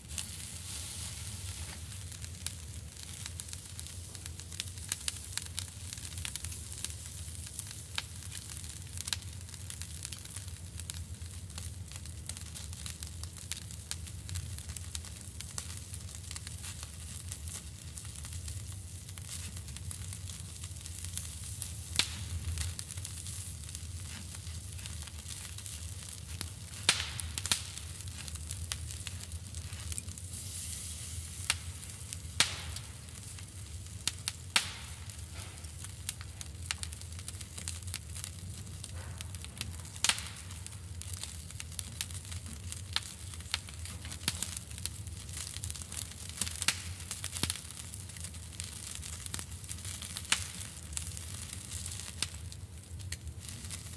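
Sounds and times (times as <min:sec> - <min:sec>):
fat crackling and popping: 0:00.0 - 0:53.9
sausage sizzling on grill: 0:00.0 - 0:53.9.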